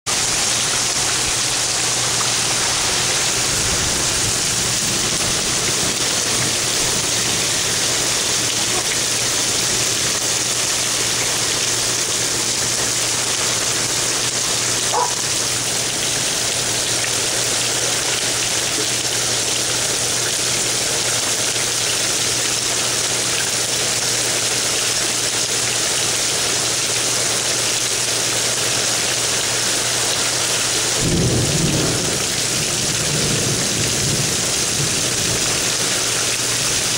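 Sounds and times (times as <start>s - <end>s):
heavy rain in strong wind: 0.1s - 36.9s.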